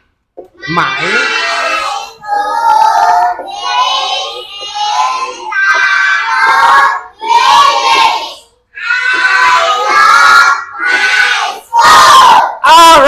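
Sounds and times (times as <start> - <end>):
children reading aloud in unison: 0.4 - 13.0.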